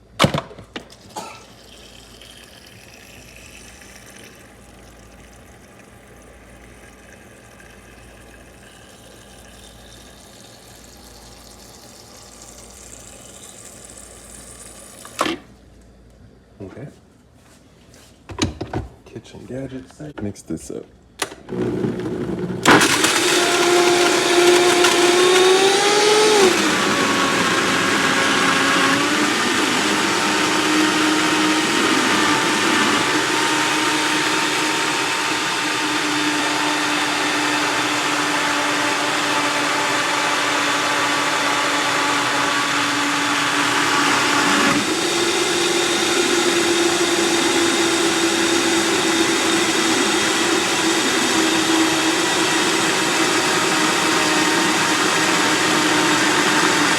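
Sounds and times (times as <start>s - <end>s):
blender running: 1.0s - 15.4s, 21.2s - 56.9s.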